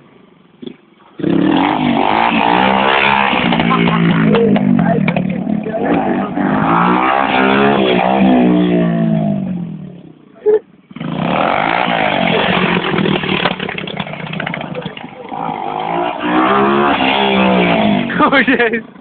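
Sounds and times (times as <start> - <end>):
dirt bike engine revving: 0.6 - 10.0, 10.9 - 18.9.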